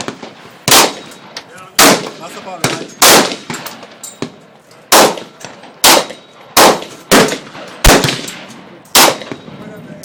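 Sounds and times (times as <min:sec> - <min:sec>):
rifle shots cracking: 0:00.0 - 0:09.5.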